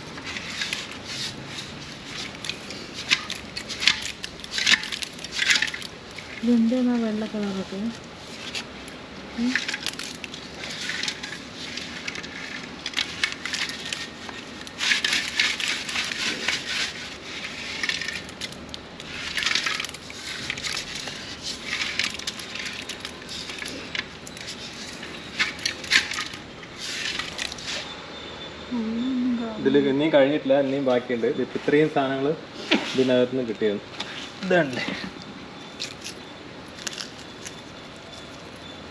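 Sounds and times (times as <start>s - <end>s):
mineral scale scraping and crunching: 0.0s - 28.0s, 32.7s - 38.9s.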